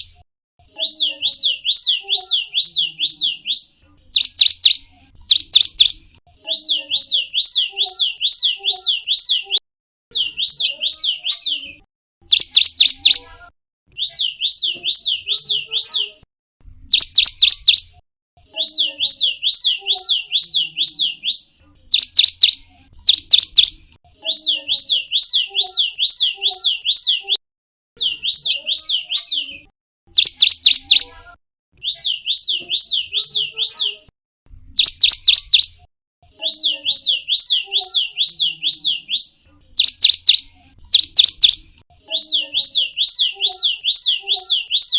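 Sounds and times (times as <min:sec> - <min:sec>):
bird singing whistled notes: 0:00.8 - 0:13.3, 0:13.9 - 0:16.2, 0:16.9 - 0:18.0, 0:18.6 - 0:27.4, 0:28.0 - 0:31.2, 0:31.8 - 0:33.9, 0:34.8 - 0:35.8, 0:36.4 - 0:44.9.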